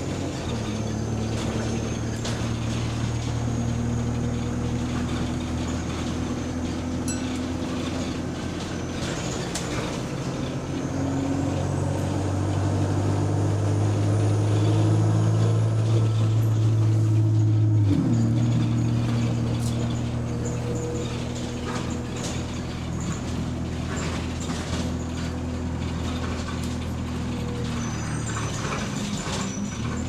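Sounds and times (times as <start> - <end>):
bus engine hum: 0.0 - 30.0.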